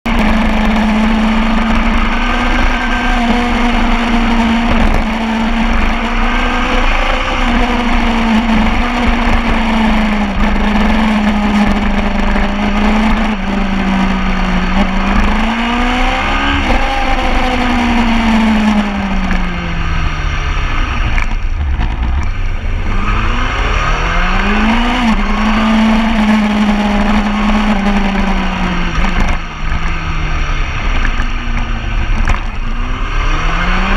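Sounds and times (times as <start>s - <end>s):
motorbike engine at high revs: 0.0s - 33.9s
low rumble of wind: 0.1s - 33.9s.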